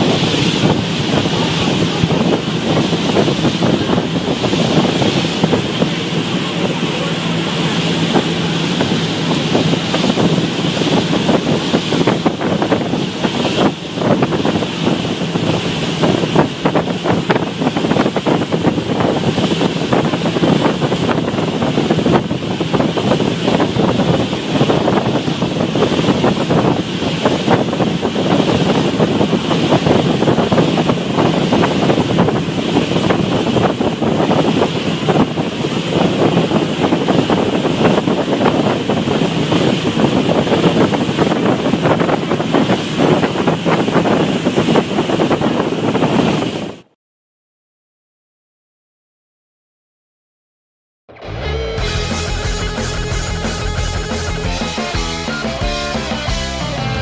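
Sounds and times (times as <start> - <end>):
boat engine running: 0.0 - 46.9, 51.1 - 57.0
wind buffeting microphone: 0.0 - 46.9
waves washing against hull: 0.0 - 47.0, 51.8 - 57.0.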